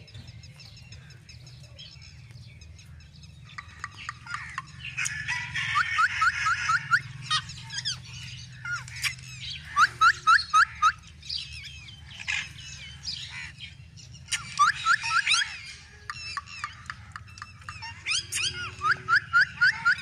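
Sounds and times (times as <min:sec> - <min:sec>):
parakeet squawks and chatter: 0:00.0 - 0:20.0
parakeets chirping: 0:00.0 - 0:20.0.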